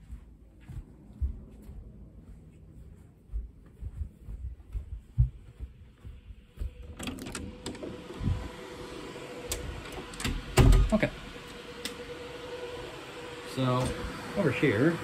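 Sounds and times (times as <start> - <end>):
cooling fans whirring: 0.0 - 15.0.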